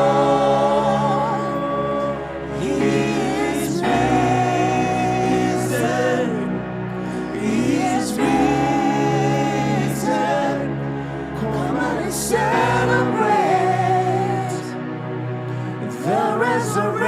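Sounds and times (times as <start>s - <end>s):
person singing: 0.0s - 14.9s, 15.8s - 17.0s
sustained keyboard chords: 0.0s - 17.0s.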